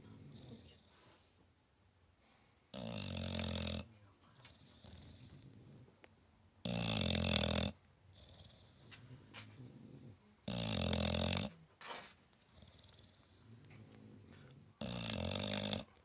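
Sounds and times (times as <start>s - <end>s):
dog snoring: 0.0s - 1.3s, 2.7s - 6.0s, 6.6s - 16.0s.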